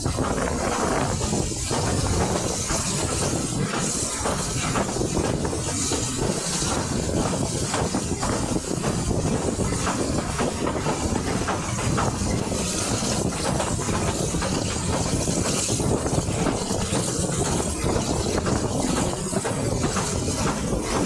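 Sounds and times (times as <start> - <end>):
rush of air: 0.0 - 21.0
train wheels rattling and knocking: 0.0 - 21.0.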